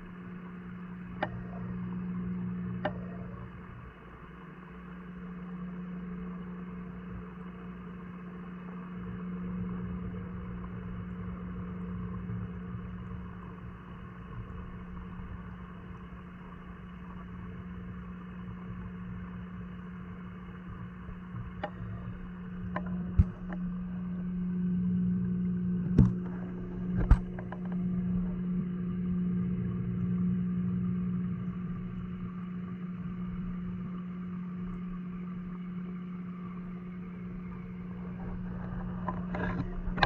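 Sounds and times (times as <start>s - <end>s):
pond pump humming underwater: 0.0s - 40.0s.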